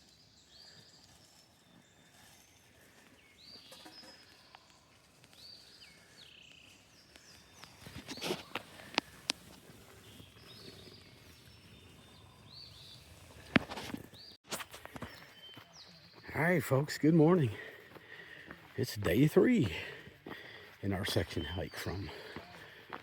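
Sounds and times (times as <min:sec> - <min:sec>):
songbird singing: 0:00.0 - 0:22.8.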